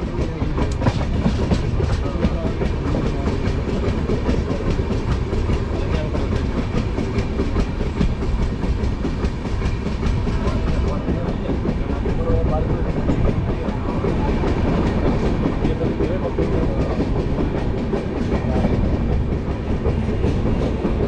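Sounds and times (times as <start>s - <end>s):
train rumbling along track: 0.0s - 21.0s
wheels clicking over rail joints: 0.0s - 21.0s.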